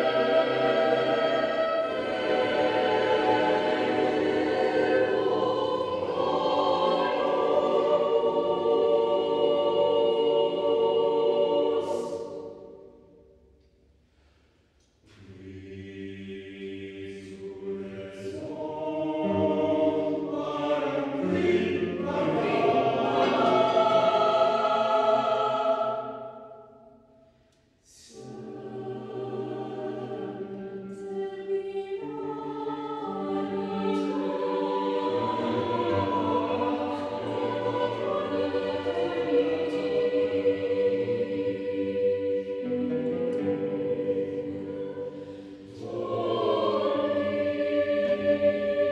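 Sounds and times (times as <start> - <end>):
choir singing sustained chords: 0.0 - 13.7, 14.9 - 48.9.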